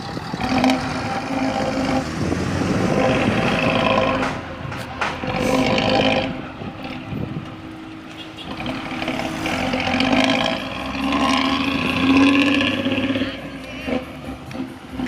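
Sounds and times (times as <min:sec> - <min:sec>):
bus diesel engine raspy exhaust: 0:00.0 - 0:15.0.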